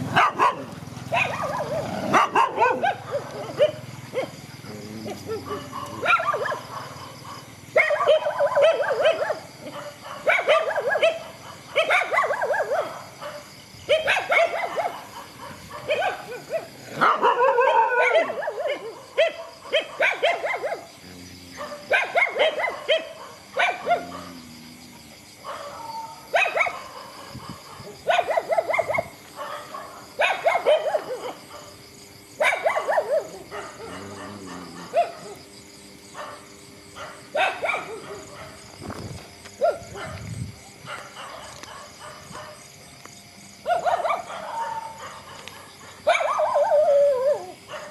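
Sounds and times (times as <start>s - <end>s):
dogs barking: 0.0s - 47.9s.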